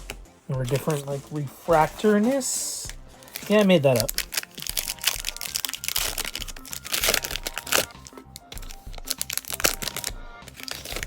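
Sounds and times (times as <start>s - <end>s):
background music: 0.0s - 11.0s
wrapper and cards crinkling: 0.0s - 11.0s.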